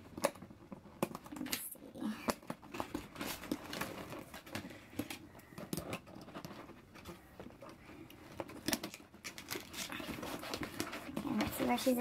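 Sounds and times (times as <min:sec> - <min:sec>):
packaging clicks and rustles: 0:00.0 - 0:12.0.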